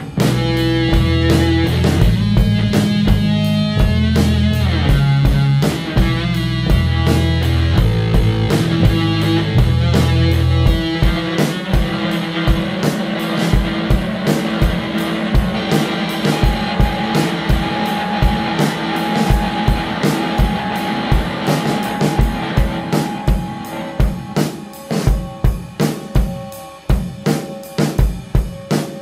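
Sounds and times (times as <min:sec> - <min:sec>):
rock music: 0:00.0 - 0:29.0
steady drum beat: 0:00.0 - 0:29.0.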